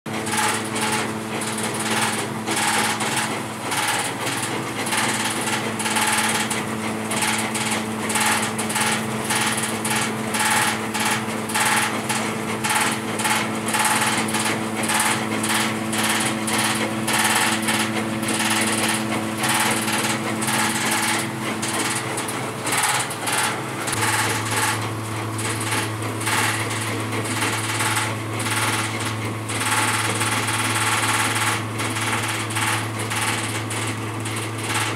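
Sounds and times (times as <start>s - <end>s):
electric motor hum: 0.2s - 34.5s.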